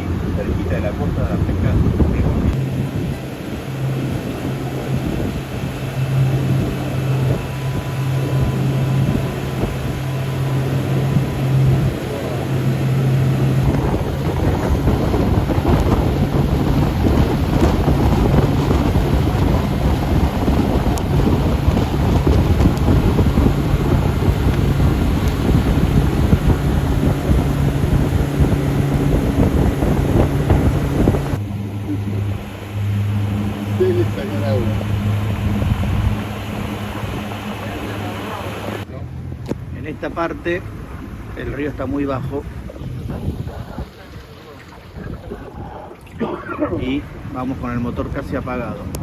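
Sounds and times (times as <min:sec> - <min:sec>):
boat engine running: 0:00.0 - 0:49.0
water rushing: 0:00.0 - 0:49.0
wind on microphone: 0:00.0 - 0:49.0.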